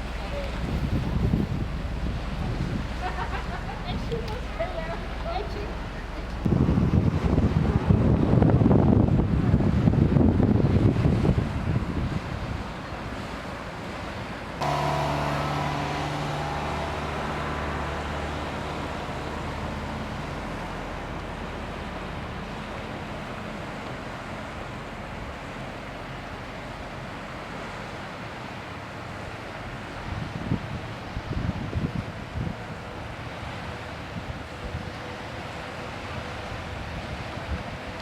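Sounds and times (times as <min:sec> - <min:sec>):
low engine hum: 0:00.0 - 0:37.2
wind: 0:00.0 - 0:38.0.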